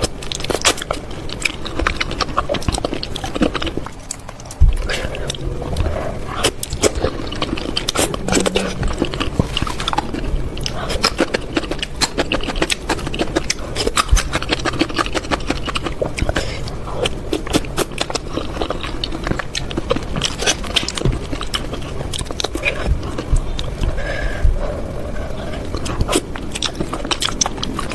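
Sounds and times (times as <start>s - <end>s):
slurping and chewing noodles: 0.0s - 27.9s.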